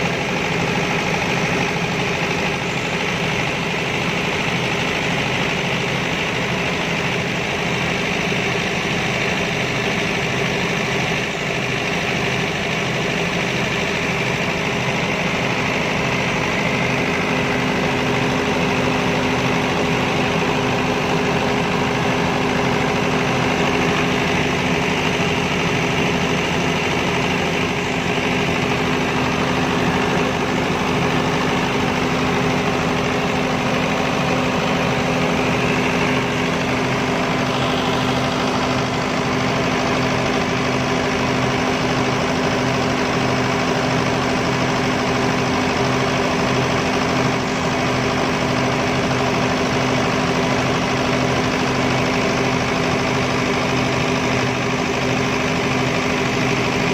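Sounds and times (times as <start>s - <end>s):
diesel generator running: 0.0s - 56.9s.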